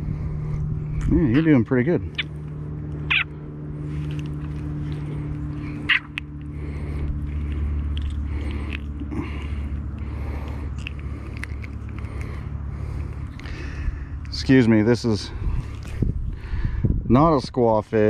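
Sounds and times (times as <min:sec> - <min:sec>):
low mechanical hum: 0:00.0 - 0:18.0
low rumble: 0:00.0 - 0:18.0.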